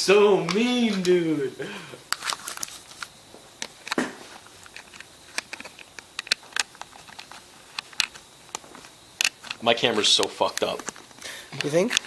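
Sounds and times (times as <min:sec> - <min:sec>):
small hard objects clicking: 0:02.1 - 0:12.0.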